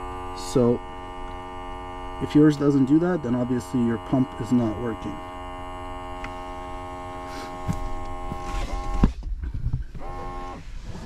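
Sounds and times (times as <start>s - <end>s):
air pump humming: 0.0s - 11.0s.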